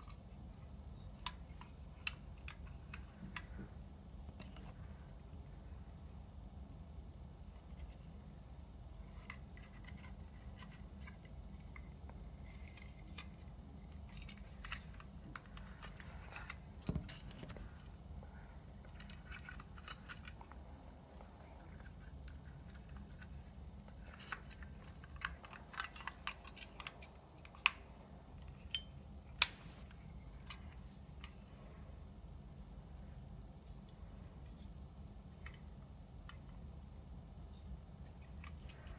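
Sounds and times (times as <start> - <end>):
small clicks and rattles of parts: 0.0 - 6.0, 7.1 - 38.9
steady low hum: 0.0 - 38.9.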